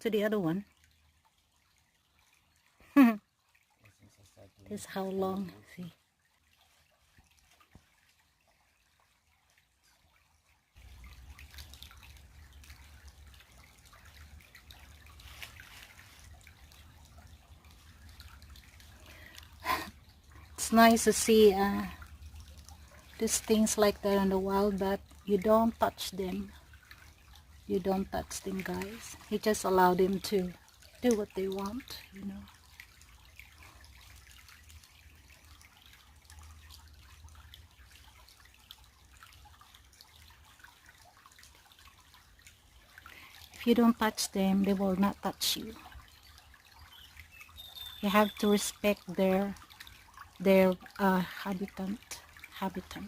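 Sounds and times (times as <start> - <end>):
creek water trickling: 0.0 - 53.0
small splashes: 0.0 - 53.0.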